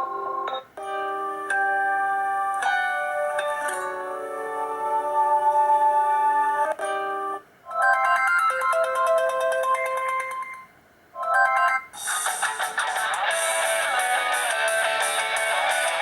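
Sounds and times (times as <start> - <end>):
phone ringtone melody: 0.0 - 6.2, 6.8 - 16.0.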